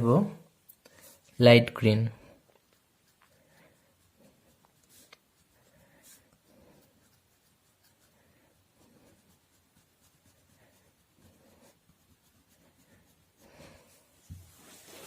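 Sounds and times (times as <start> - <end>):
colour pencil scratching on paper: 2.7 - 15.0.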